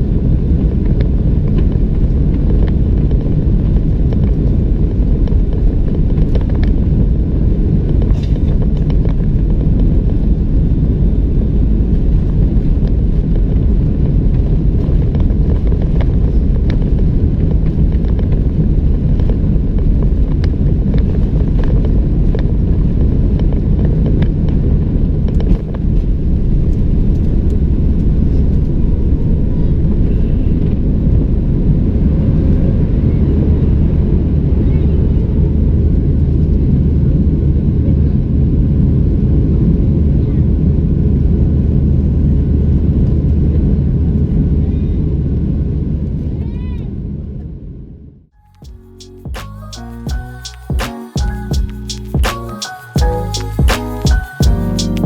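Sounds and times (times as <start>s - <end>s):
airplane engines roaring in cabin: 0.0s - 48.0s.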